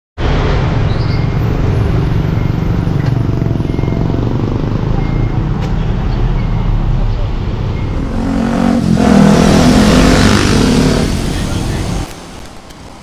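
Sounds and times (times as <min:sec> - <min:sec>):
street traffic rumble: 0:00.2 - 0:13.0.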